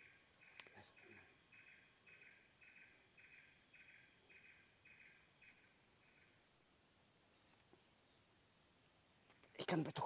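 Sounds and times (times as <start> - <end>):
insects rasping pulse: 0.0 - 10.0.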